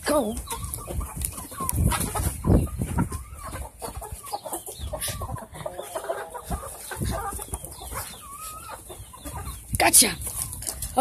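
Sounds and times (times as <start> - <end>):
hens and rooster clucking: 0.0 - 11.0.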